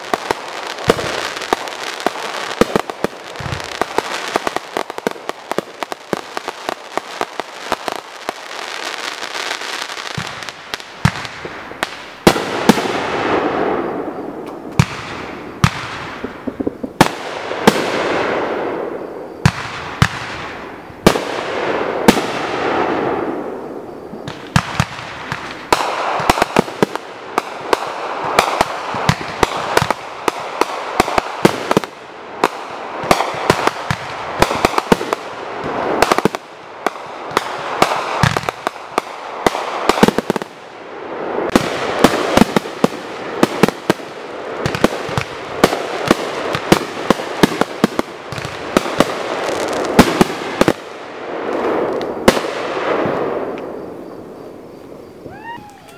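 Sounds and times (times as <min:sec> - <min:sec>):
fireworks bangs: 0:00.0 - 0:55.9
fireworks crackling hiss: 0:00.0 - 0:55.9.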